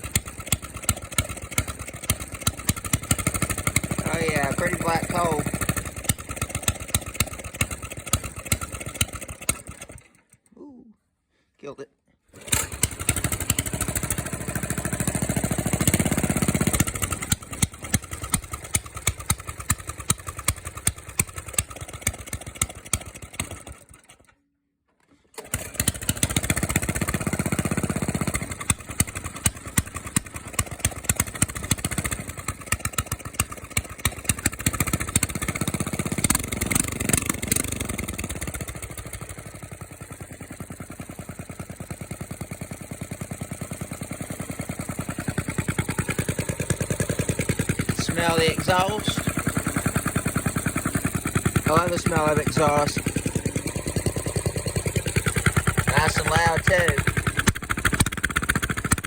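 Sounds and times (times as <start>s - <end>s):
small gasoline engine revving: 0.0s - 10.4s, 12.3s - 24.3s, 25.2s - 59.0s.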